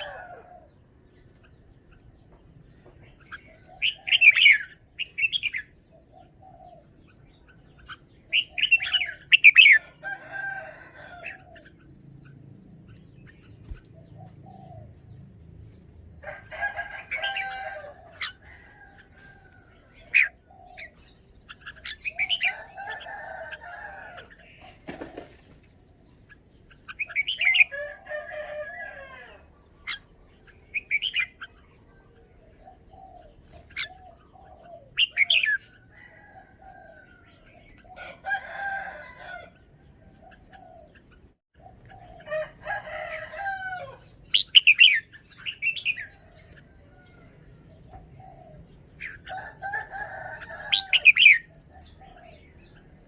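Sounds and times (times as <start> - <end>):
bird singing warbled phrases: 0.0 - 53.0.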